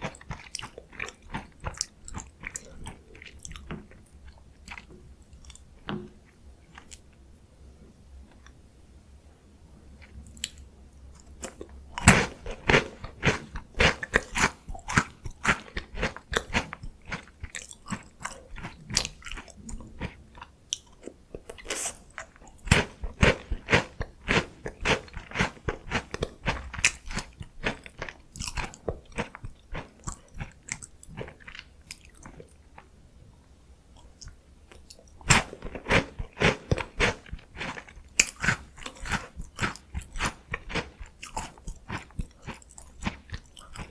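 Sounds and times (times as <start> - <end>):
crunchy snack chewing: 0.0 - 5.6, 11.2 - 32.9, 34.2 - 43.9.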